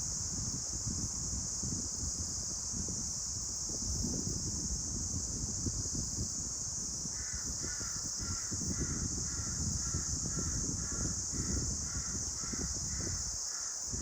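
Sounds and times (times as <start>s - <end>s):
steady high hiss: 0.0s - 14.0s
wind rumbling on microphone: 0.0s - 14.0s.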